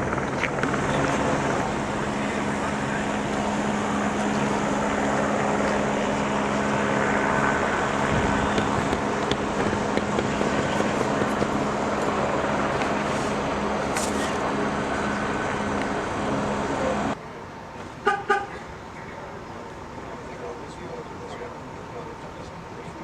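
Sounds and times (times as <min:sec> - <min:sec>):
engine drone: 0:00.0 - 0:23.0
outdoor noise: 0:00.0 - 0:23.0.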